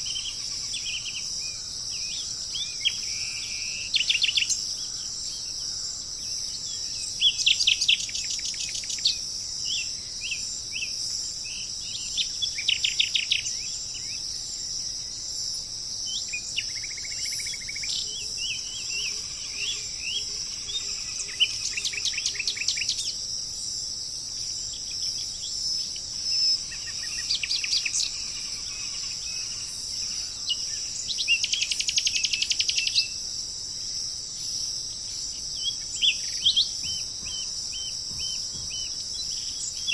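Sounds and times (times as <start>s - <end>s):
crickets chirping: 0.0s - 39.9s
forest birds trilling: 0.0s - 39.9s.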